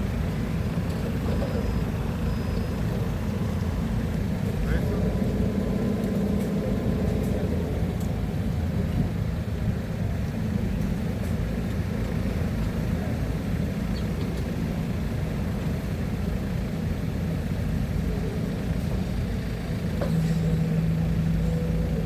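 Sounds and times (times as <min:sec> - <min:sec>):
heavy equipment engine rumbling: 0:00.0 - 0:22.0.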